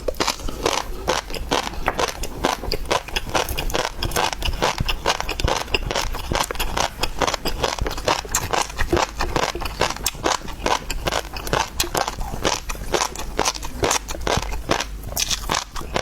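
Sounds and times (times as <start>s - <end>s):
wet chewing and crunching: 0.0s - 16.0s.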